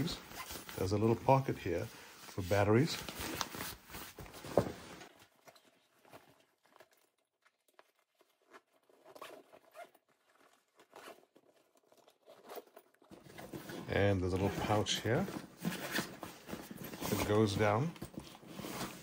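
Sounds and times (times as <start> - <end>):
backpack fabric rustling: 0.0 - 19.0.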